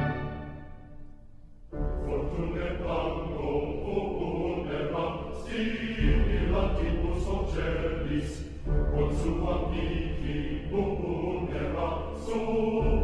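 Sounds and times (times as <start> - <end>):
choir chanting: 0.0 - 1.0, 1.8 - 13.0.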